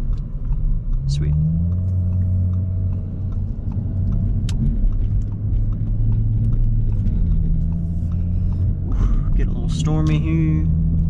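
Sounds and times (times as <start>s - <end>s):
car engine and road noise in cabin: 0.0s - 11.0s.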